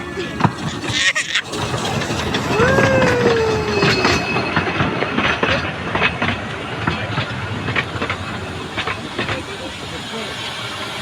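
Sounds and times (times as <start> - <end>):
train wheels clicking over rail joints: 0.0 - 11.0.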